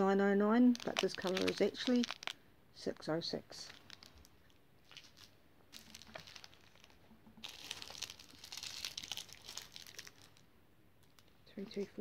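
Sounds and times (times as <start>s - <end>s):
plastic bags crinkling: 0.6s - 11.9s.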